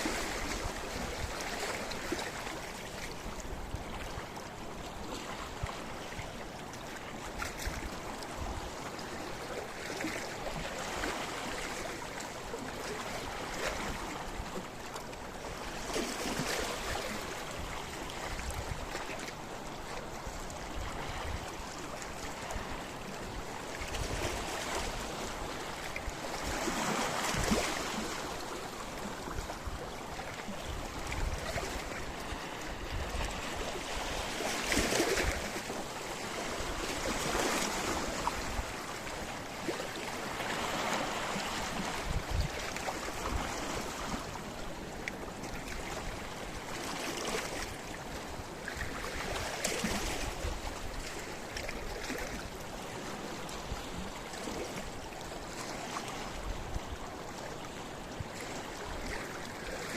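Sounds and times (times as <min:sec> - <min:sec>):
waves breaking on rocky shore: 0:00.0 - 0:59.9.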